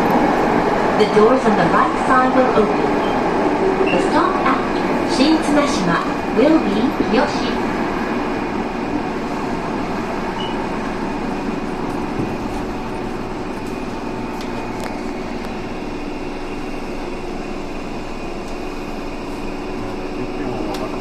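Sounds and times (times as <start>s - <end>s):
train hum tones: 0.0s - 21.0s
train wheels rumbling on rail: 0.0s - 21.0s.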